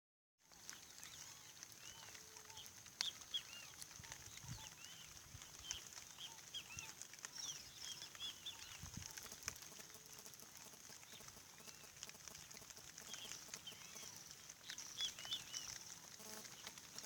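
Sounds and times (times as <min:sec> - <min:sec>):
small birds chirping: 0:00.5 - 0:17.0.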